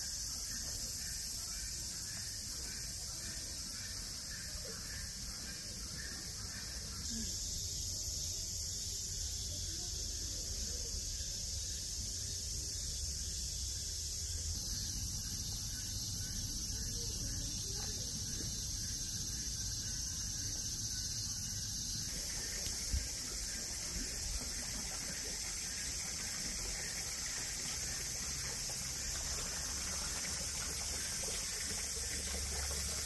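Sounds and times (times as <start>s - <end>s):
cicadas chorus: 0.0s - 33.0s.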